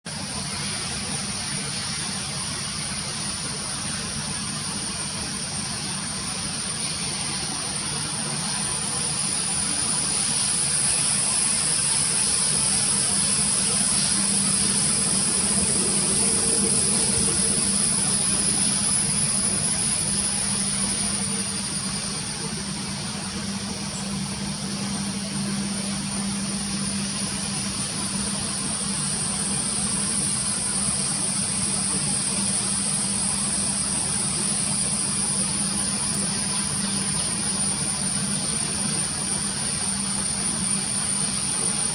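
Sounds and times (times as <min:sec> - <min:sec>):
jet engines rushing and whining: 0:00.1 - 0:41.9.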